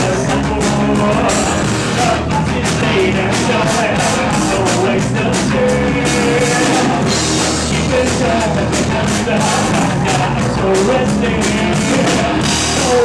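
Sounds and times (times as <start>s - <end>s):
drum kit hits: 0.0s - 13.0s
live rock band playing: 0.0s - 13.0s.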